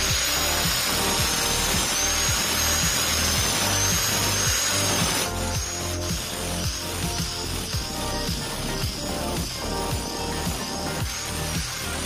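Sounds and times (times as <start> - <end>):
angle grinder whine: 0.0 - 12.0
background music with beat: 0.0 - 12.0.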